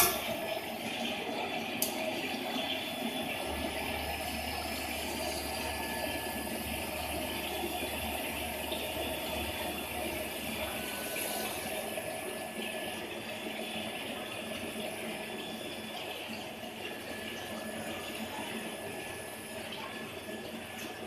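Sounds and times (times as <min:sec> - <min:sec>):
low machine hum: 0:00.0 - 0:21.0
thin steady whine tones: 0:00.0 - 0:21.0.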